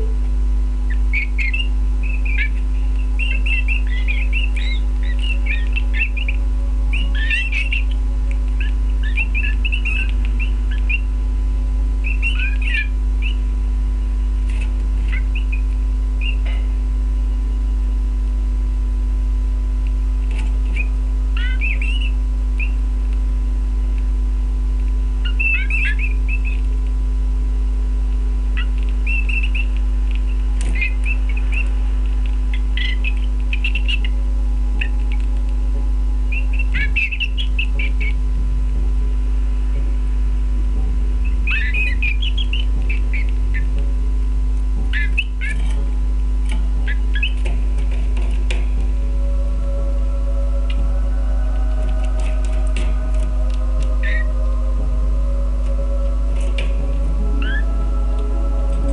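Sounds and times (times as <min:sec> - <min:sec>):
steady low hum: 0:00.0 - 0:58.9
canaries twittering: 0:00.8 - 0:17.8, 0:20.2 - 0:23.0, 0:25.1 - 0:26.9, 0:28.4 - 0:38.3, 0:41.2 - 0:43.9, 0:44.5 - 0:58.9.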